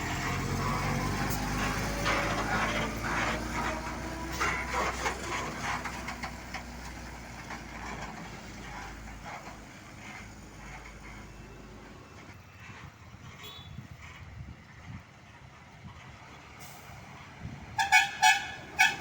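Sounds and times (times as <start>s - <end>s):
truck diesel engine running: 0.0s - 13.3s, 14.0s - 19.0s.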